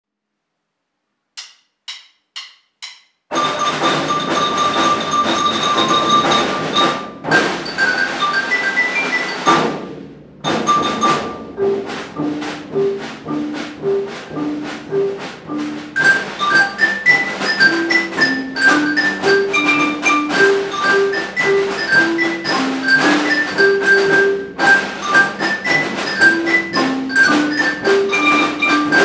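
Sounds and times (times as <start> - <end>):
snare drums: 1.4 - 29.0
marimbas and xylophones: 1.9 - 29.0.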